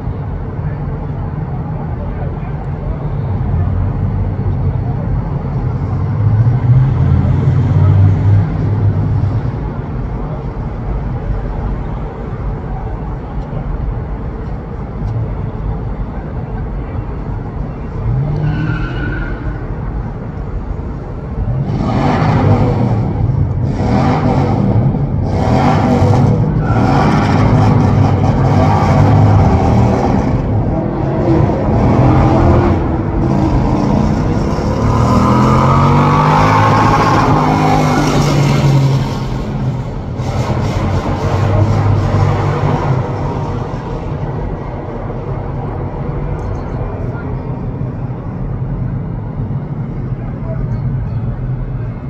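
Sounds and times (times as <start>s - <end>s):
vehicle engines revving: 0.0s - 52.0s.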